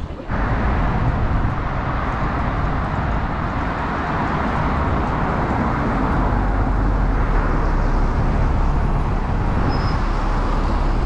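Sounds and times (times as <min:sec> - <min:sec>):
bus pulling in and stopping: 0:00.0 - 0:11.0
street traffic rumble: 0:00.0 - 0:11.0.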